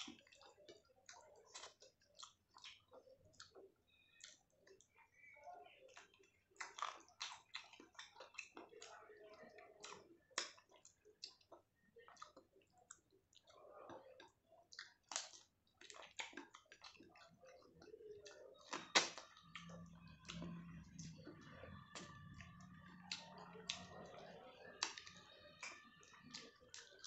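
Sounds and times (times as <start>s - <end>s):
chewing and wet mouth sounds: 0.0s - 27.0s
mouth clicks and smacks: 0.0s - 27.0s.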